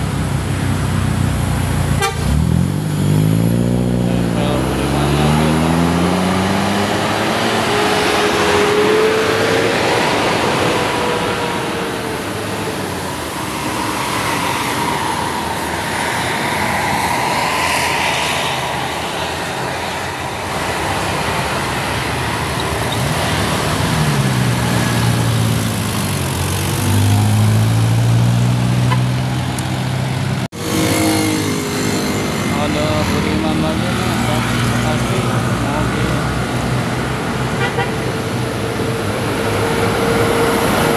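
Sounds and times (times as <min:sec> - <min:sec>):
heavy vehicle engines: 0:00.0 - 0:40.9
tyre and road noise: 0:00.0 - 0:40.9
vehicle accelerating: 0:00.9 - 0:40.9.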